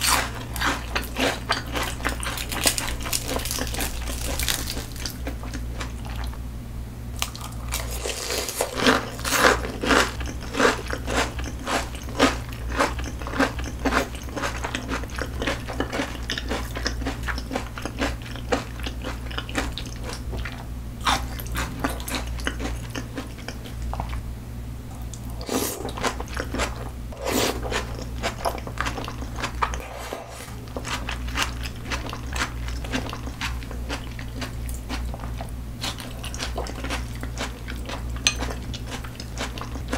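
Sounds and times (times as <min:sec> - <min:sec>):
crunchy biting and chewing: 0:00.0 - 0:06.3, 0:07.2 - 0:24.2, 0:25.2 - 0:39.9.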